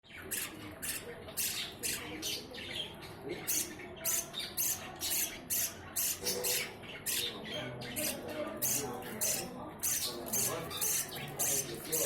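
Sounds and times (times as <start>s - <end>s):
budgerigar chicks squawking: 0.2s - 12.0s.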